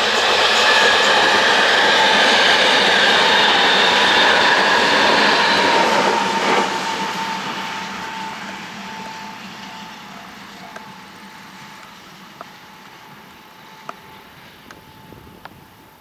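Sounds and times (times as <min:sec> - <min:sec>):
level-crossing alarm ringing: 0:00.0 - 0:15.2
electric train running past: 0:00.0 - 0:16.0.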